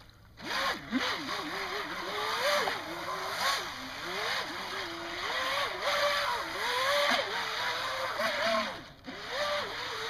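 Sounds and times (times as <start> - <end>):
electric motor whining: 0.4 - 10.0.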